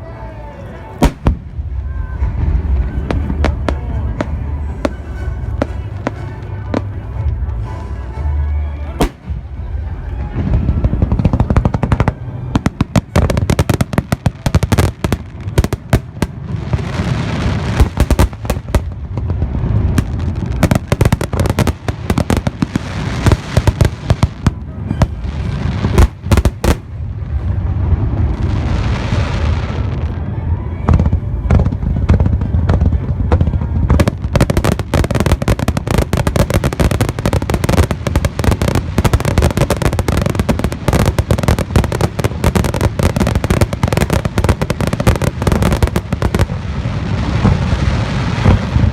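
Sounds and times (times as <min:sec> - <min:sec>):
fireworks bangs and crackles: 0:00.1 - 0:48.9
low rumbling boom: 0:01.0 - 0:08.1, 0:09.0 - 0:48.9.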